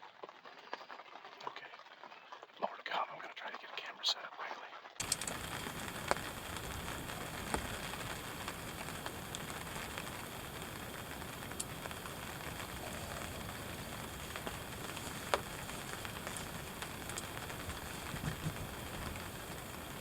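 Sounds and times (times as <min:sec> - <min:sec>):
rain pattering on a blind: 0:00.0 - 0:20.0.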